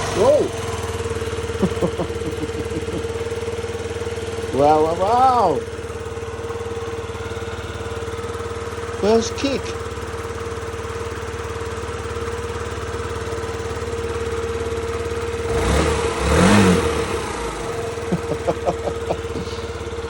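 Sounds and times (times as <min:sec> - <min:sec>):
scooter engine idling and revving: 0:00.0 - 0:20.0.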